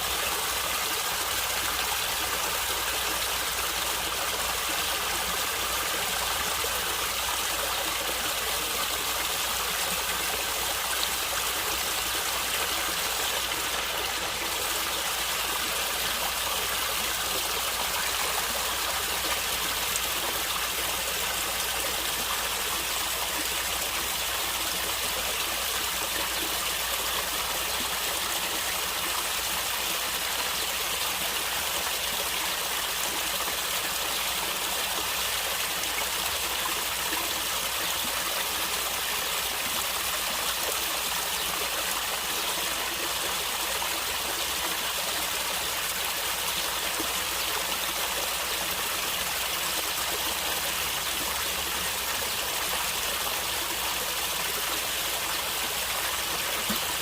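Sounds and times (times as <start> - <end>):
stream water running over rocks: 0.0 - 57.0.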